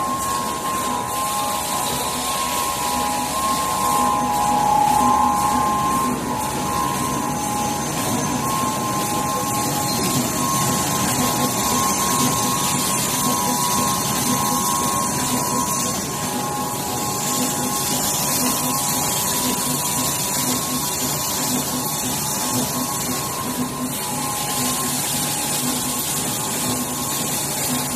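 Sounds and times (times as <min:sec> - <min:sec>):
printing machine humming: 0:00.0 - 0:27.9.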